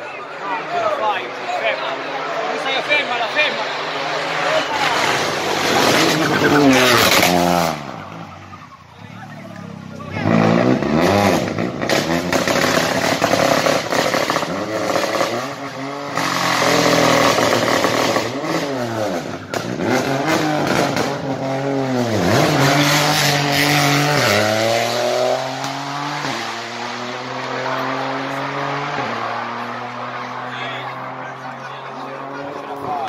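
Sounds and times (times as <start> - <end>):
rally car engine revving: 1.9 - 33.0.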